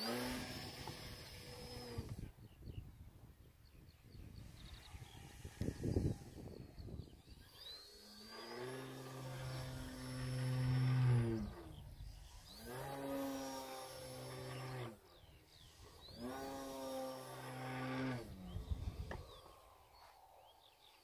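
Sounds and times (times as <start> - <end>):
model plane electric motor droning: 0.0 - 2.5, 4.3 - 20.0.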